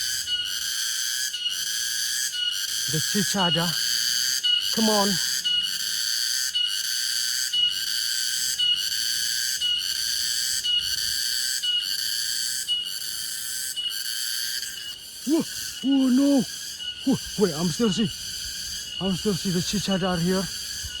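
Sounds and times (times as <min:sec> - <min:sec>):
cicada buzzing drone: 0:00.0 - 0:21.0.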